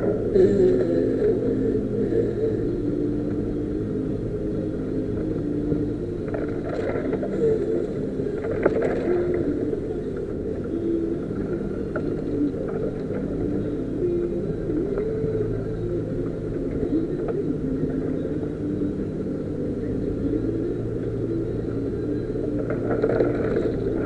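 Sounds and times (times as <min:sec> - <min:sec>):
engine running at low revs: 0:00.0 - 0:24.0.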